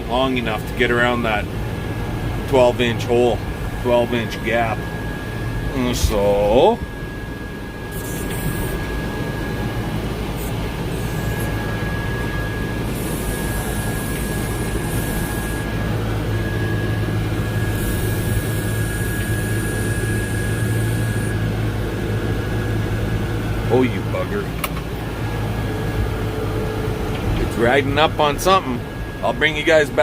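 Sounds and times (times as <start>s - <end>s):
tractor engine running: 0.0s - 30.0s
thin high whine: 2.5s - 30.0s.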